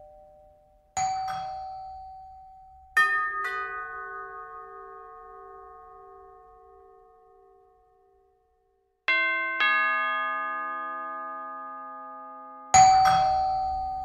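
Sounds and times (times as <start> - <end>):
doorbell chime: 0.0 - 6.3, 9.1 - 14.0.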